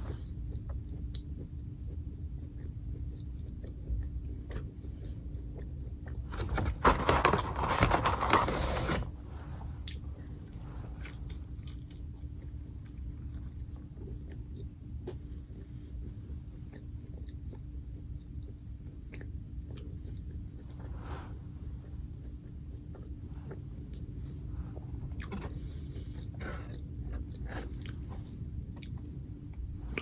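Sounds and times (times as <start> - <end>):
chewing and biting food: 0.0 - 8.0, 9.8 - 30.0.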